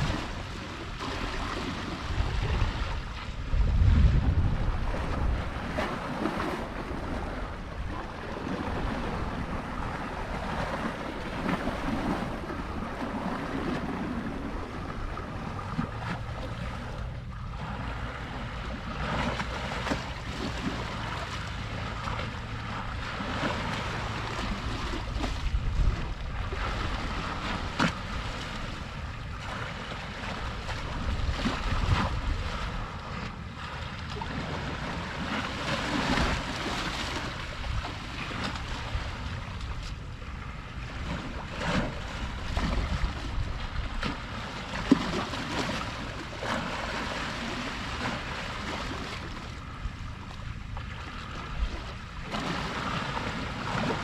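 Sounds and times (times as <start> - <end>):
small waves lapping: 0.0 - 54.0
wind rumbling on microphone: 0.0 - 54.0.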